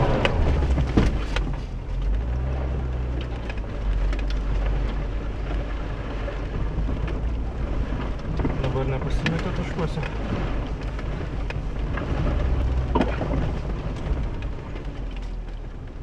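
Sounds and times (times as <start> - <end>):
car engine drone: 0.0 - 16.0
car knocks and rattles: 0.0 - 16.0
road rumble: 0.0 - 16.0.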